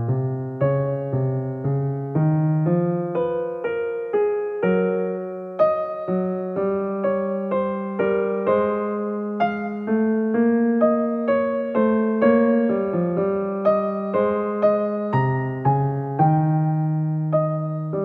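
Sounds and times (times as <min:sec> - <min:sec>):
calm piano melody: 0:00.0 - 0:18.0.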